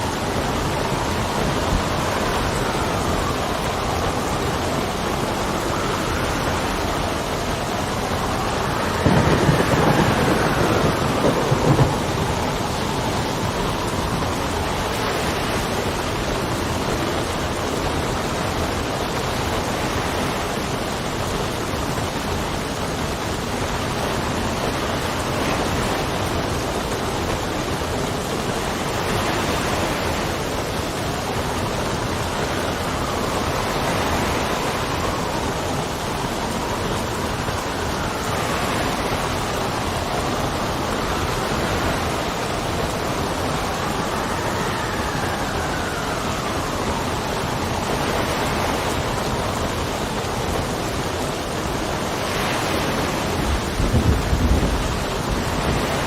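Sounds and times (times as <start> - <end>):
gusting wind whistling: 0.0 - 56.0
heavy rain: 0.0 - 56.0.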